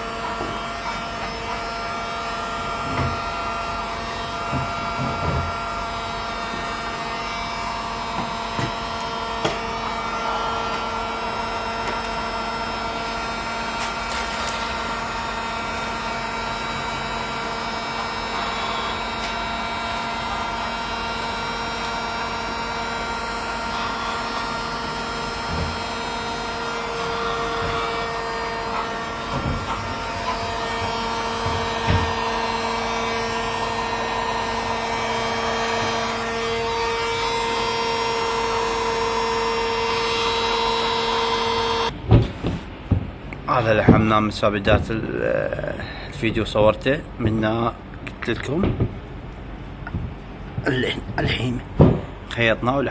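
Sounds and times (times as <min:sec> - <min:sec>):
hot-air welding gun blower: 0:00.0 - 0:43.4.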